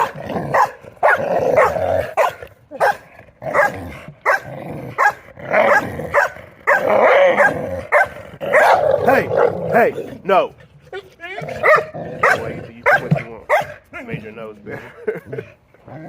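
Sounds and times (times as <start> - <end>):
dogs barking and yelping: 0.0 - 14.1.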